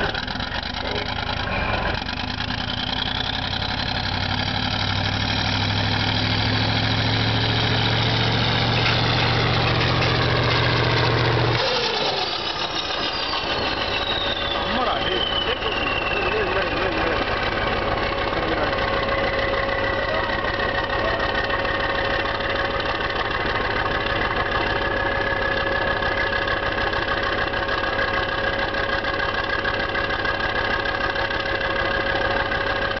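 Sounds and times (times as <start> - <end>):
constant whine: 0.0 - 33.0
diesel engine running: 0.0 - 33.0.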